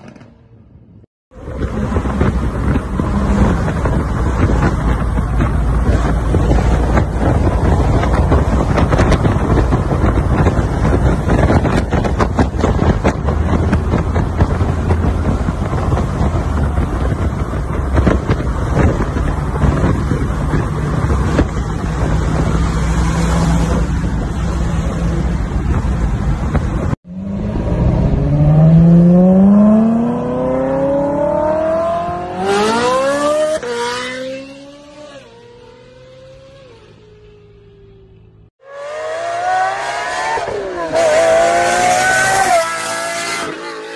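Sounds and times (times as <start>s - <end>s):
wind and road noise: 0.0s - 43.9s
sports car engine accelerating: 1.4s - 43.9s.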